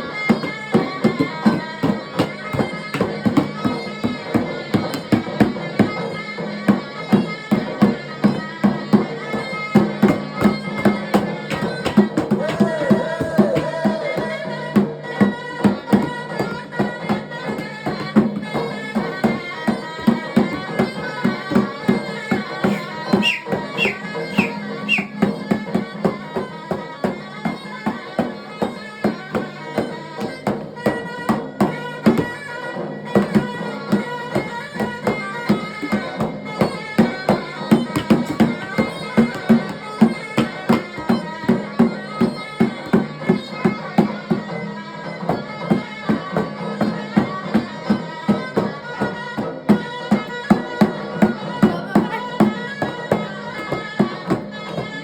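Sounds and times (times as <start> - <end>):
shawm melody: 0.0 - 55.0.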